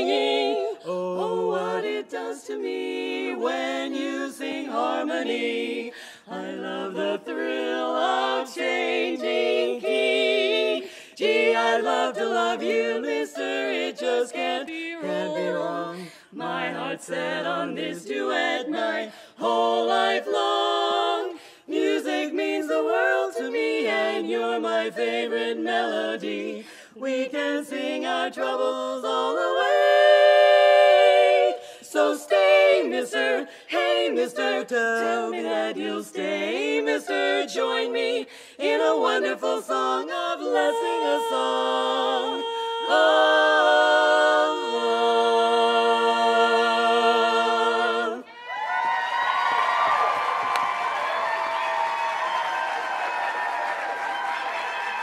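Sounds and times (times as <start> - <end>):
women singing a cappella in harmony: 0.0 - 48.8.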